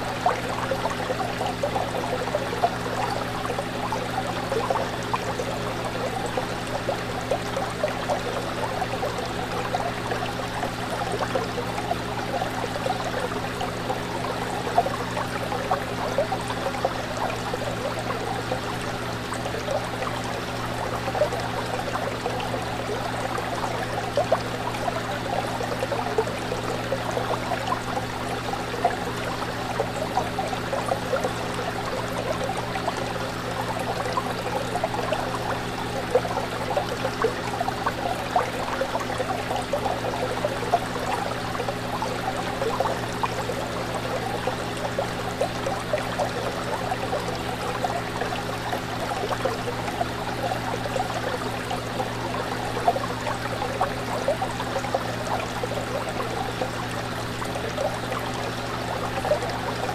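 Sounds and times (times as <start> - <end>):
aquarium pump hum: 0.0 - 59.9
aquarium water bubbling: 0.0 - 59.9.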